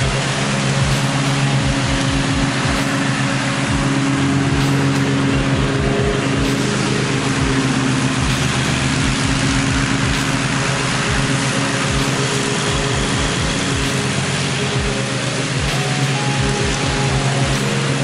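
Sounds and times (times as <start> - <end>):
mower engine running: 0.0 - 18.0.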